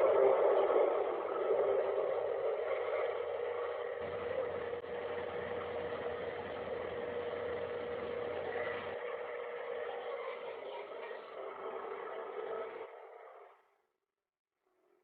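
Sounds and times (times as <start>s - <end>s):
steady engine-like drone: 0.0s - 13.6s.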